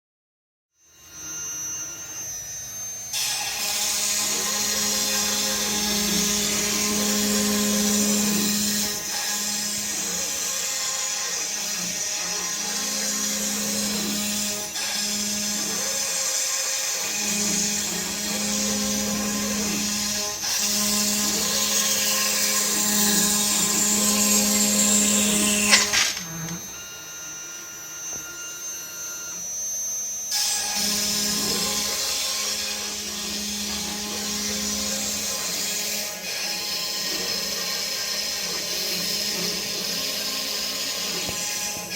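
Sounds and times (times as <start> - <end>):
router spindle whine and cutting: 0.9 - 41.9
motors whining up and down: 1.0 - 41.9.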